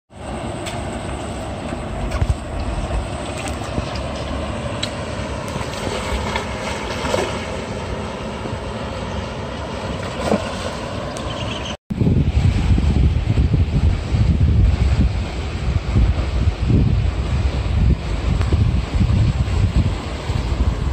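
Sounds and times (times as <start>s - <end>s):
wind buffeting microphone: 0.2s - 8.8s, 9.6s - 20.9s.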